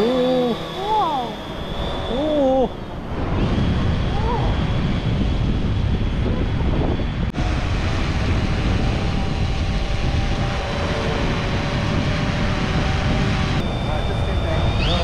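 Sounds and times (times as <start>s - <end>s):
drone motors humming: 0.0s - 15.0s
heavy low rumble: 0.0s - 15.0s.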